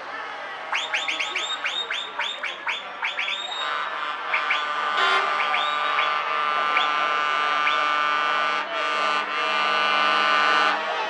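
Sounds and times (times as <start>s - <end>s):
truck air horns chord: 1.3s - 10.9s.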